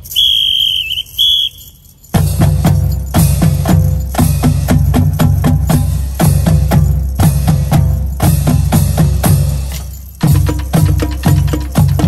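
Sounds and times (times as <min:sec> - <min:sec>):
marching band drum strokes: 0:02.1 - 0:12.0.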